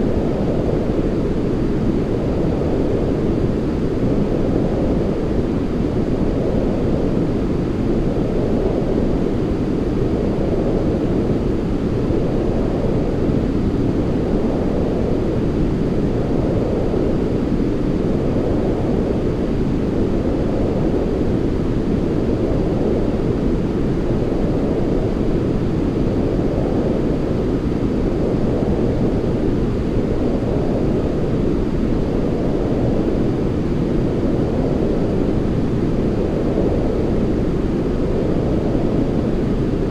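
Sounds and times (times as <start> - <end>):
muffled white noise rush: 0.0 - 39.9.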